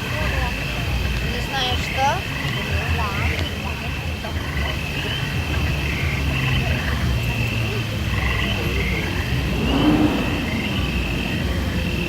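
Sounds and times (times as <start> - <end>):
chorus of frog-like croaks: 0.2 - 12.0.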